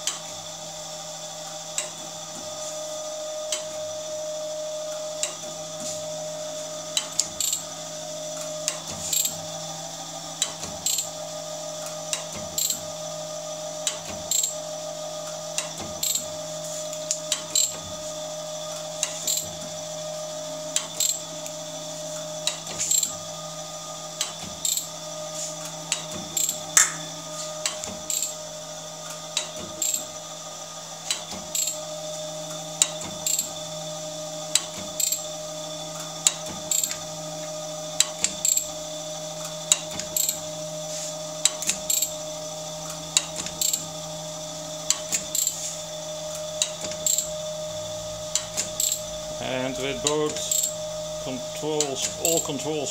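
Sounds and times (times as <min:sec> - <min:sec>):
grinder motor hum and whine: 0:00.0 - 0:52.9.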